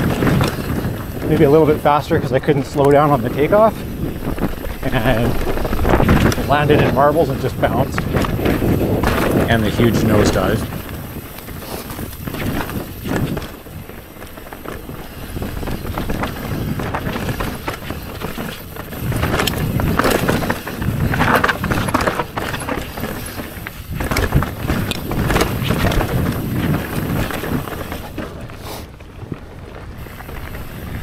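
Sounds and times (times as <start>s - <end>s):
bike clattering over bumps: 0.0s - 31.0s
tyres on dirt and stones: 0.0s - 31.0s.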